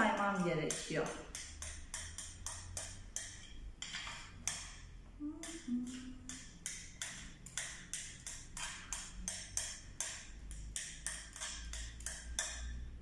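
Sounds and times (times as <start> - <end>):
spoon scraping foam in glass dish: 0.0 - 4.9, 6.3 - 12.8.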